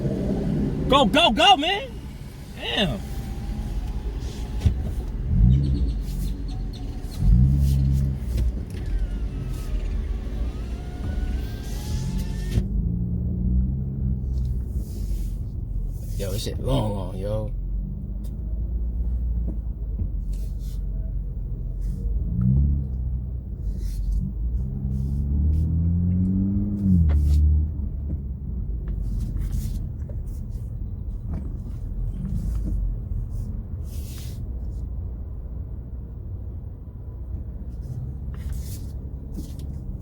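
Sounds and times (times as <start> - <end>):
car engine revving: 0.0 - 20.8, 21.5 - 34.2.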